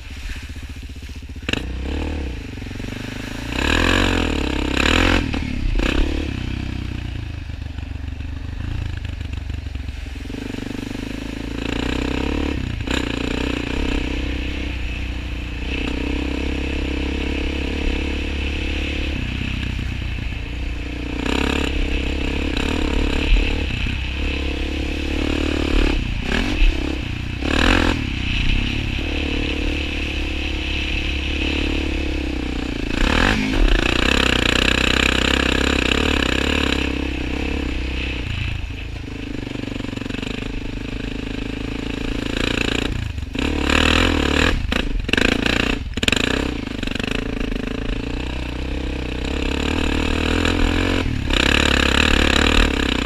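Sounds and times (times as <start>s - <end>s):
quad bike engine revving: 1.0s - 53.0s.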